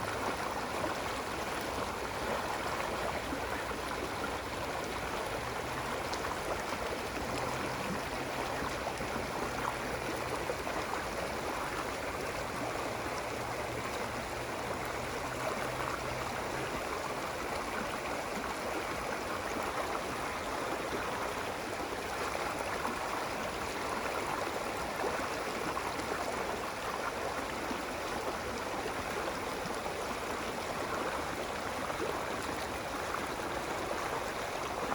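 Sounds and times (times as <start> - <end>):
stream flowing and splashing: 0.0 - 34.9.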